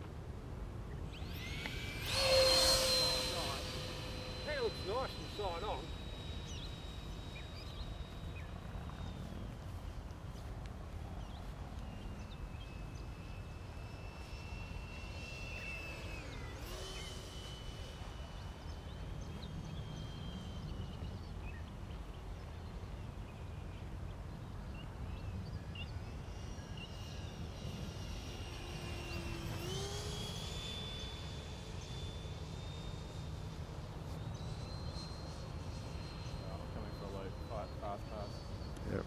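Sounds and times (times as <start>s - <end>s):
model jet ducted fan whining: 0.0s - 39.0s.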